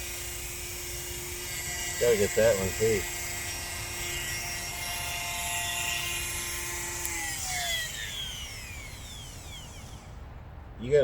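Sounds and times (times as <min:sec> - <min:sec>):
rotary tool whining: 0:00.0 - 0:10.5.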